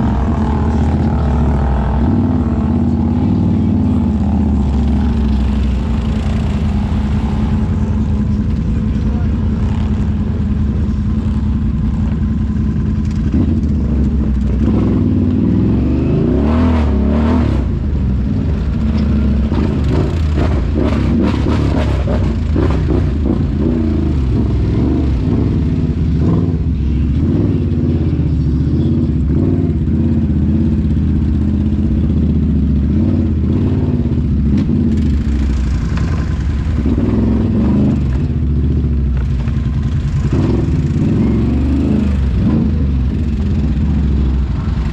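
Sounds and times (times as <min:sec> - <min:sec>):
atv engine revving: 0:00.0 - 0:44.9.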